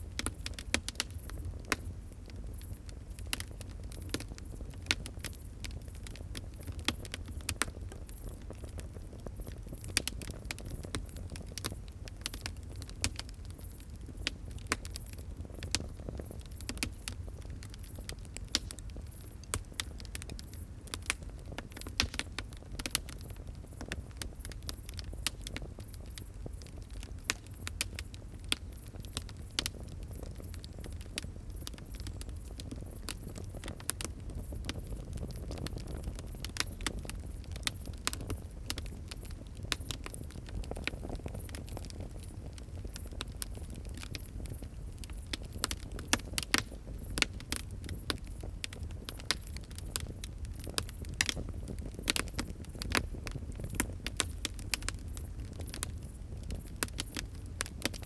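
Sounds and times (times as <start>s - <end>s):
low rumble of flames: 0.0s - 58.0s
wood fire crackling: 0.0s - 58.0s
sharp pops and snaps: 0.1s - 58.0s.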